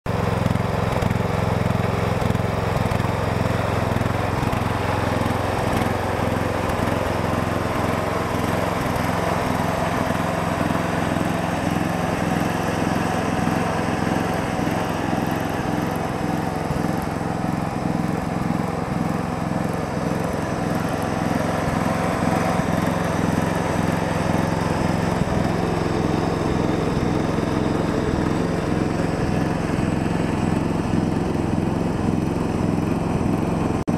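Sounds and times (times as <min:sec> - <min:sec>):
lawn tractor engine running: 0:00.1 - 0:33.9.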